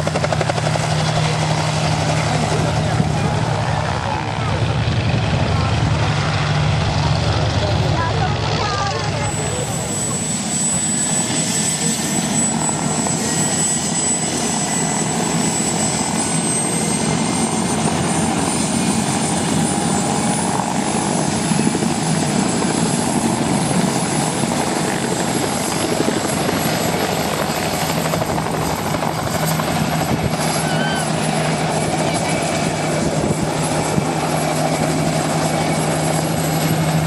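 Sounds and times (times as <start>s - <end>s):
helicopter rotor and engine noise: 0.0s - 37.0s
high turbine whine: 0.0s - 37.0s.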